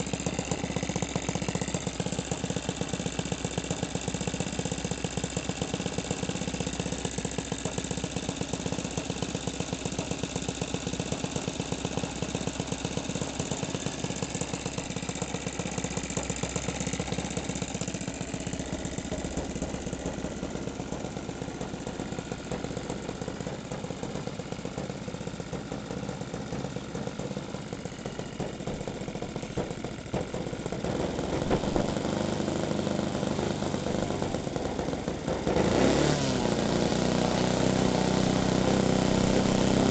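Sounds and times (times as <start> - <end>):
model aircraft engine running: 0.0 - 39.9.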